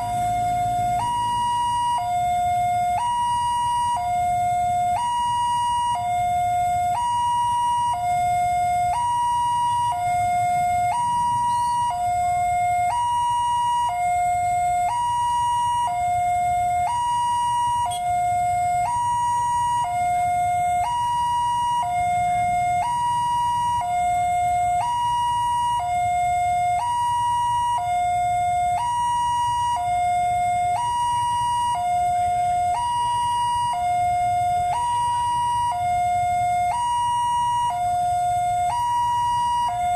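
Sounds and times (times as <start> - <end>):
two-tone level crossing siren: 0.0 - 39.9.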